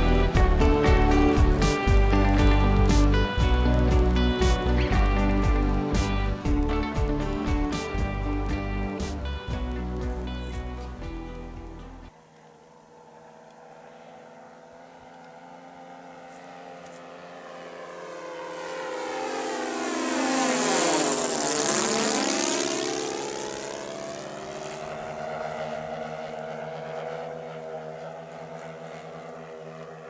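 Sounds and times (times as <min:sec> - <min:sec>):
model plane engines droning: 0:00.0 - 0:30.0.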